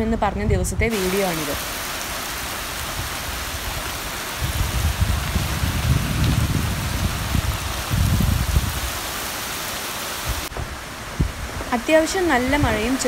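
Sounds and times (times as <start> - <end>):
wind rumble on microphone: 0.0 - 1.6, 2.7 - 9.5, 10.1 - 13.0
heavy rain on trees and roof: 0.9 - 13.0.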